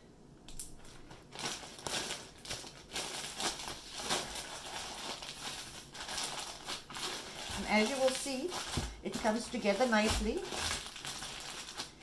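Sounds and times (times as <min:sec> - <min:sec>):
plastic bag crinkling: 0:00.6 - 0:12.0.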